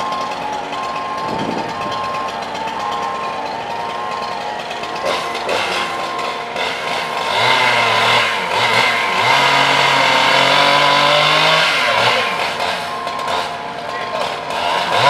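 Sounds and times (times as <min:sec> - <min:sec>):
petrol engine revving: 0:00.0 - 0:15.0.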